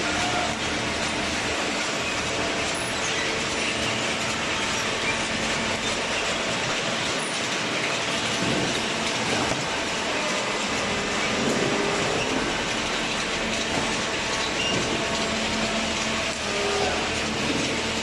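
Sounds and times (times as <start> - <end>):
industrial machinery rattling: 0.0 - 18.0.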